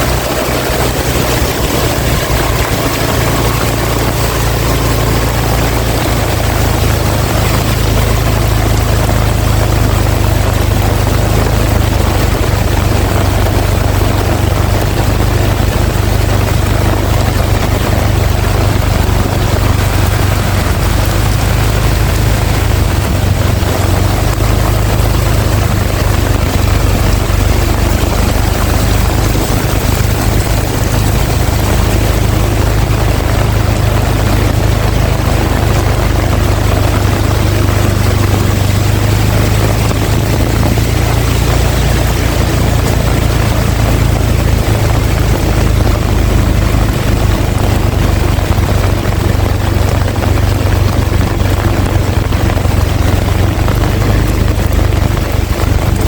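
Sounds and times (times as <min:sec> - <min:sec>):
heavy rain: 0:00.0 - 0:56.0
strong wind rumble: 0:00.0 - 0:56.0.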